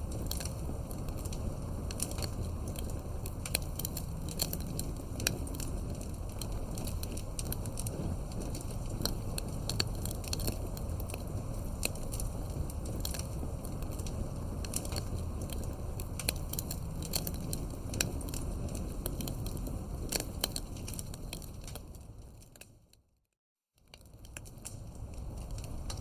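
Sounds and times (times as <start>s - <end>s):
campfire crackling and popping: 0.0s - 22.8s, 23.8s - 26.0s
low rumble of flames: 0.0s - 23.2s, 23.8s - 26.0s.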